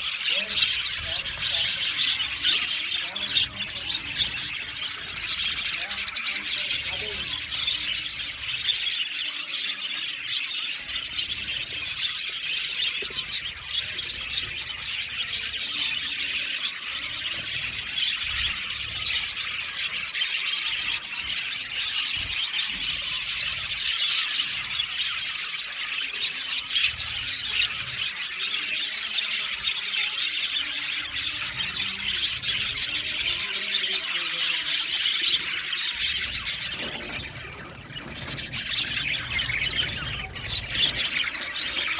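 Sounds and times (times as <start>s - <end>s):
budgerigars chattering: 0.0s - 41.9s.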